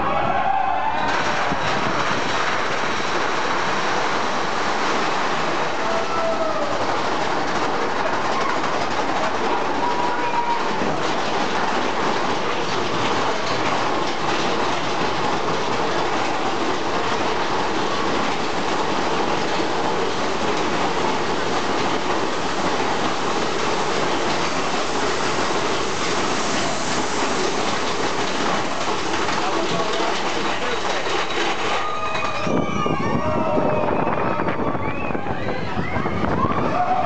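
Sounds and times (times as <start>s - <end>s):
roller coaster wheels rattling on rails: 0.0s - 37.0s.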